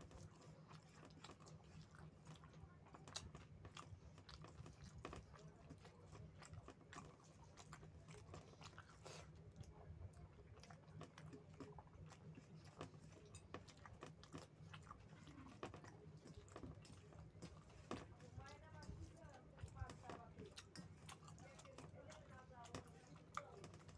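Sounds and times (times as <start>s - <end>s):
wet chewing with mouth clicks: 0.0s - 23.9s.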